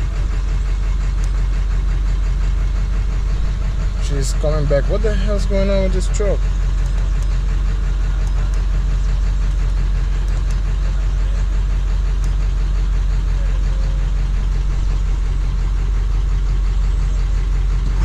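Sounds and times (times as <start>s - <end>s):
diesel engine running and missing: 0.0s - 18.0s.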